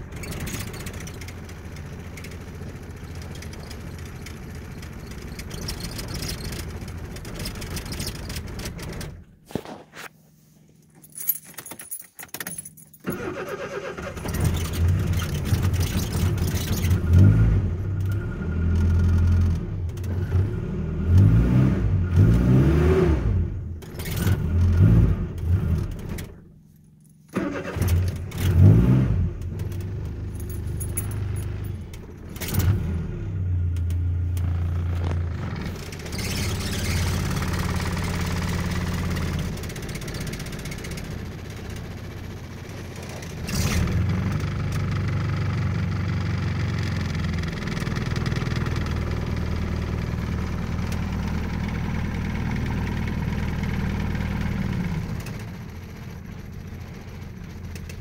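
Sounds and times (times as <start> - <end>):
engine starting and revving: 0.0 - 9.3, 13.0 - 26.4, 27.3 - 56.1.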